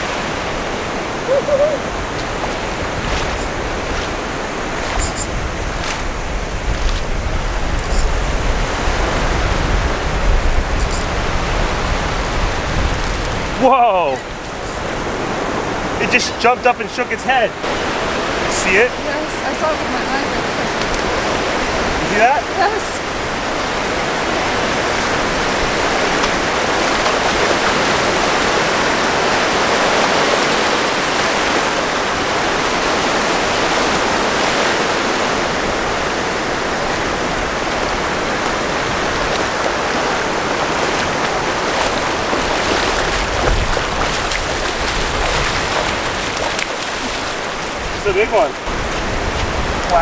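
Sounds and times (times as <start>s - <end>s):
ocean surf breaking: 0.0s - 50.0s.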